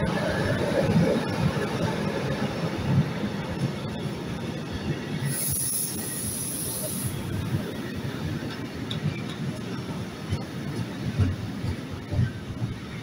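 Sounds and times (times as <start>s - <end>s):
freight wagons rumbling on rails: 0.0s - 13.0s.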